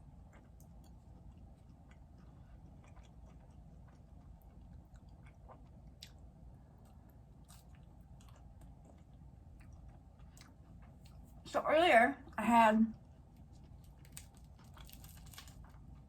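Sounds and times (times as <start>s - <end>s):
chewing food: 0.0s - 11.4s, 12.9s - 16.0s.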